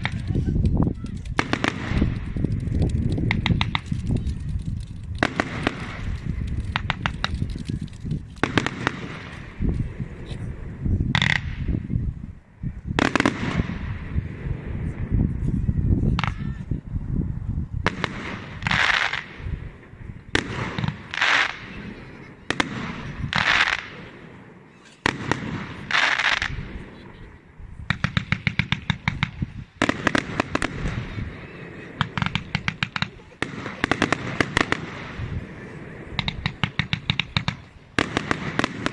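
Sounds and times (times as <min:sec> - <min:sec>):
firework hissing bursts: 0:00.0 - 0:11.8, 0:17.8 - 0:38.9
firework shells bursting with bangs: 0:00.0 - 0:11.8, 0:17.8 - 0:38.9
firework crackling pops: 0:00.0 - 0:12.0, 0:12.8 - 0:15.2, 0:17.8 - 0:38.9.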